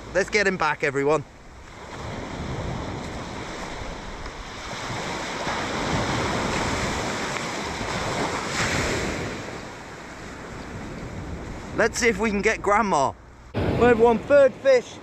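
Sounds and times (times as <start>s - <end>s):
waves breaking on beach: 0.0s - 15.0s
wind buffeting microphone: 0.0s - 15.0s.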